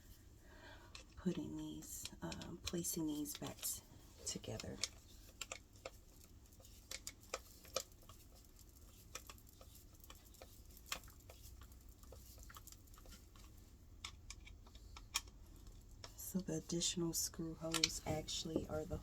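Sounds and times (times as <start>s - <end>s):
faint clicks of parts handled: 2.0s - 16.2s, 17.6s - 19.0s.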